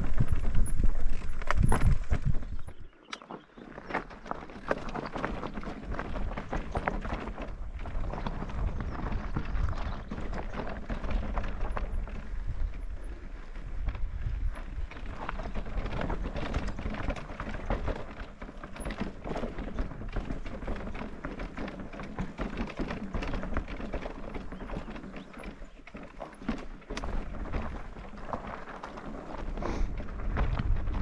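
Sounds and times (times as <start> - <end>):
stones clattering under bike tyres: 0.0 - 31.0.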